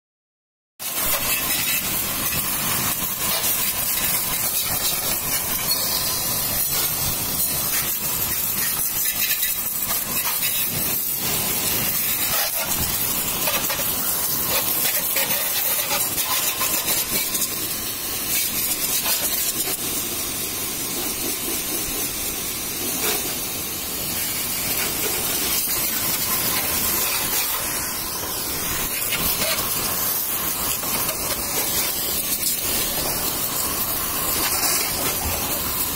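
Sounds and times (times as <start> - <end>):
pressure washer jet hissing: 0.8 - 35.9.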